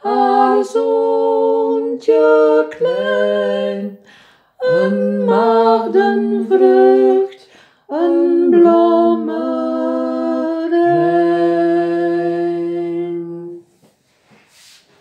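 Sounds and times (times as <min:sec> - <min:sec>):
voices singing in harmony: 0:00.0 - 0:13.7.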